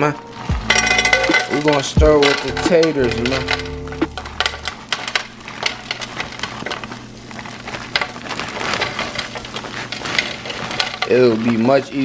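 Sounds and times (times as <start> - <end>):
diced potatoes pouring into pan: 0.0 - 12.0
light sizzle: 0.0 - 12.0.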